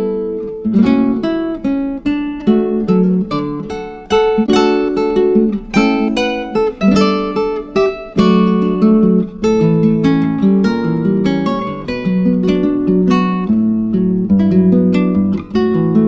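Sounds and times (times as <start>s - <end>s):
acoustic guitar strummed and plucked: 0.0s - 16.0s.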